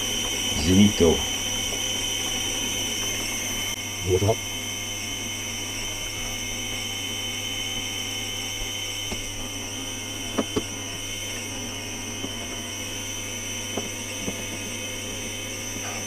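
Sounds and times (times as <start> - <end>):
machinery drone with high whine: 0.0 - 16.0.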